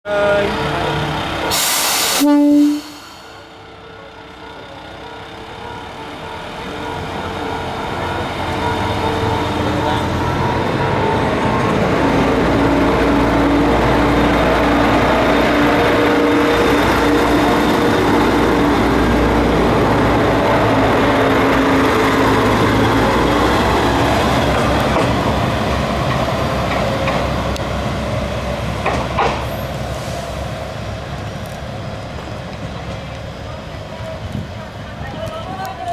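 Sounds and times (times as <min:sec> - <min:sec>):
diesel railcar engines droning: 0:00.1 - 0:35.9.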